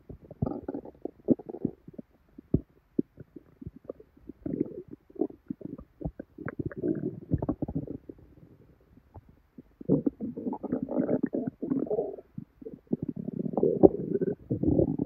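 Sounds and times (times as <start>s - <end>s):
stomach gurgling and bubbling: 0.0s - 15.0s.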